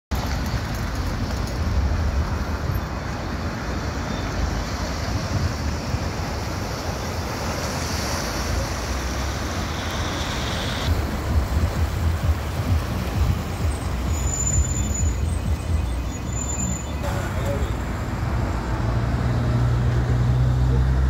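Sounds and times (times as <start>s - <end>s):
road traffic passing: 0.1s - 21.0s
river rushing: 0.3s - 21.0s.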